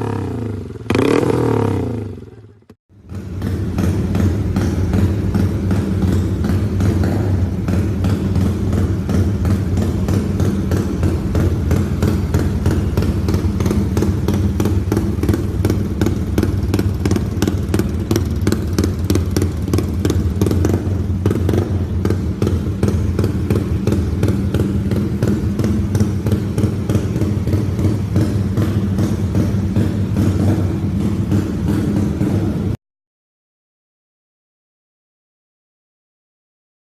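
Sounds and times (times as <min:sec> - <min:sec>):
motorcycle engine running: 0:00.0 - 0:32.8.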